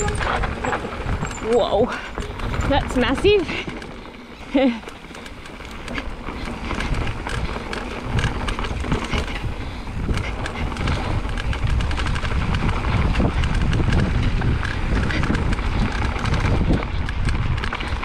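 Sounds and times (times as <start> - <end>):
bike clicking and rattling: 0.0 - 18.0
bike tyres on dirt trail: 0.0 - 18.0.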